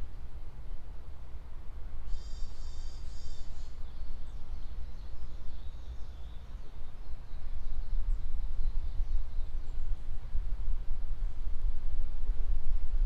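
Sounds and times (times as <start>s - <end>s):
songbirds singing faintly: 0.0s - 11.8s.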